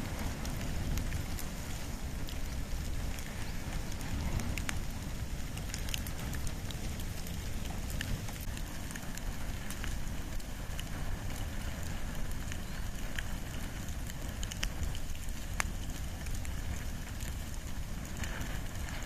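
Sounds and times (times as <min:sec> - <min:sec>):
campfire crackling and popping: 0:00.0 - 0:19.0
steady low rumble: 0:00.0 - 0:19.0.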